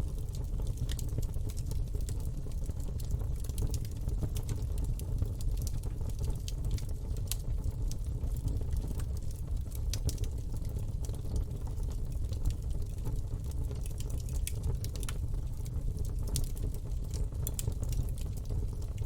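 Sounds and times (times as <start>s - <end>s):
campfire crackling and rumbling: 0.0s - 19.0s.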